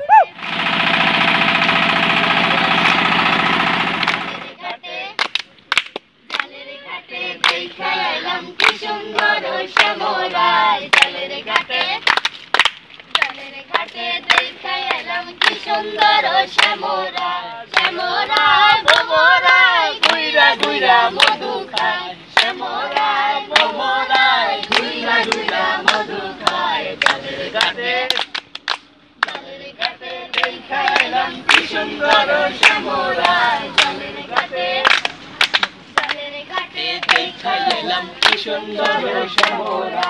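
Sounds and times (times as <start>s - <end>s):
group singing: 0.4s - 5.2s, 6.4s - 12.1s, 13.2s - 28.4s, 29.2s - 40.0s
hand-clapping in time: 1.6s - 6.5s, 7.4s - 40.0s.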